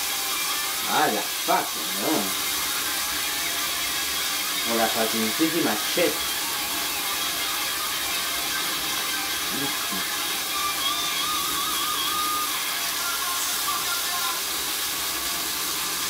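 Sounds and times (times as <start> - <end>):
food sizzling in pan: 0.0 - 16.0.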